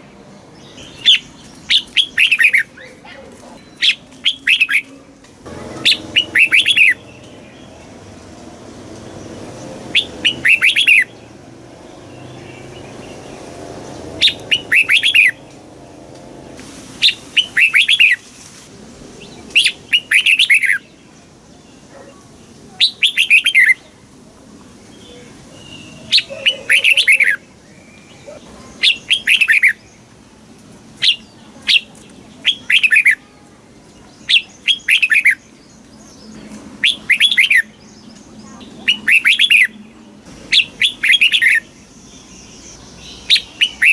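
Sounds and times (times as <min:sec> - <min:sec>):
bird singing: 0:00.0 - 0:18.3, 0:19.2 - 0:24.0, 0:24.9 - 0:30.2, 0:31.0 - 0:43.9.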